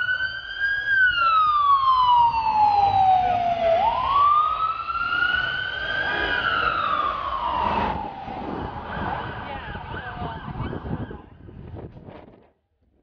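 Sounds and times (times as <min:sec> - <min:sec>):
ambulance siren wailing: 0:00.0 - 0:11.5.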